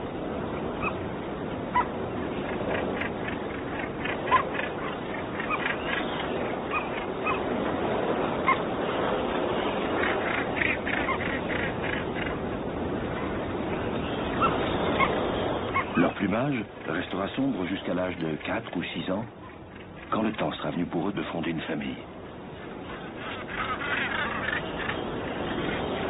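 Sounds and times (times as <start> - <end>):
seabird colony calling: 0.0 - 26.0.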